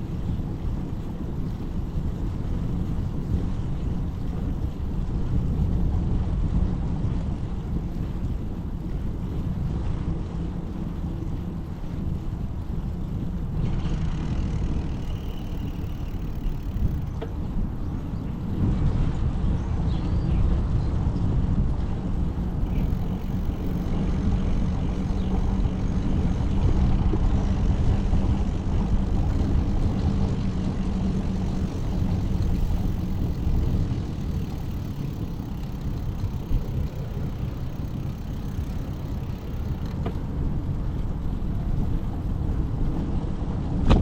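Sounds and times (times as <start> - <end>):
vehicle engine hum: 0.0 - 44.0
wind and road noise: 0.0 - 44.0.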